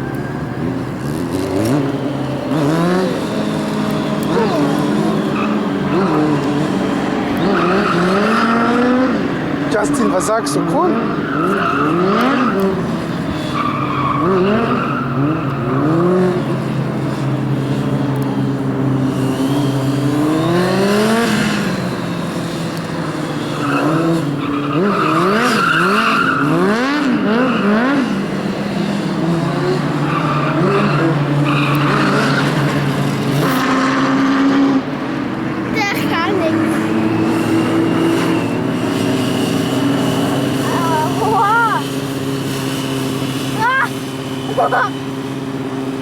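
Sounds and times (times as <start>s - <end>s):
tyre squealing: 0.0s - 17.2s, 19.1s - 34.6s, 35.6s - 45.5s
motorcycle engine revving: 0.0s - 46.0s.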